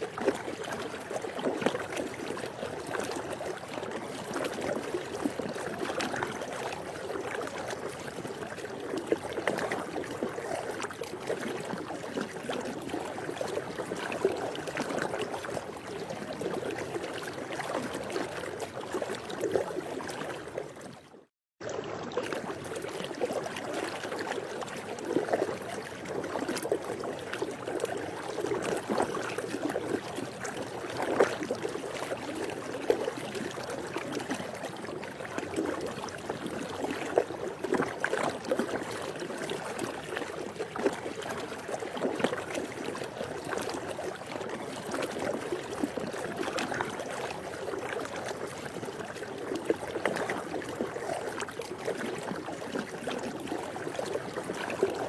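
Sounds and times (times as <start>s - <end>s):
pool water lapping: 0.0s - 55.0s.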